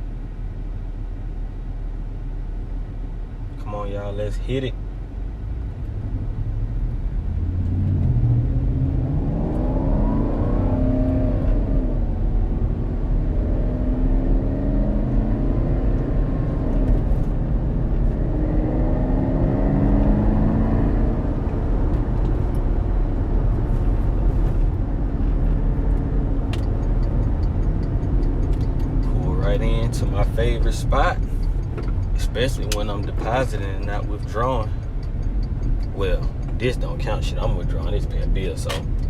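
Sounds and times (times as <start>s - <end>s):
car engine accelerating hard: 5.3s - 39.0s.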